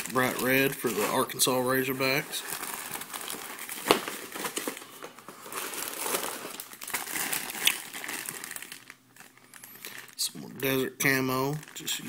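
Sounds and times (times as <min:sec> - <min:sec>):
packaging crinkling and rustling: 0:00.0 - 0:12.0
sharp packaging crackles: 0:00.0 - 0:12.0.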